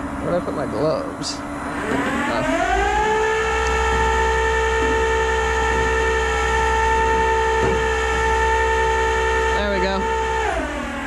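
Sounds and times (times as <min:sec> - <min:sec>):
hydraulic pump whining: 0:00.0 - 0:11.0.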